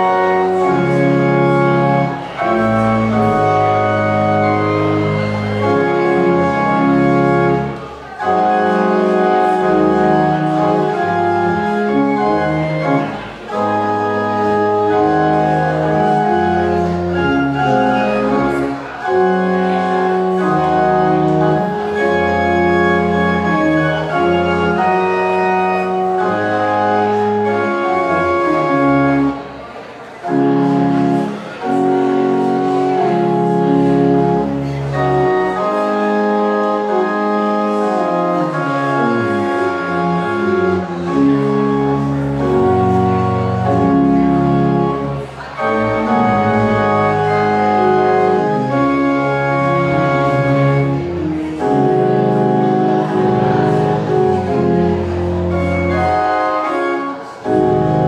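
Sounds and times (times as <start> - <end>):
pipe organ playing chords: 0.0 - 58.0.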